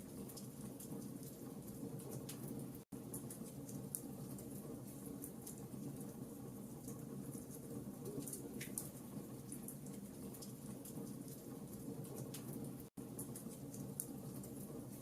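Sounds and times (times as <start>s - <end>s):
burning logs crackling: 0.0s - 15.0s
fire flames rustling: 0.0s - 15.0s.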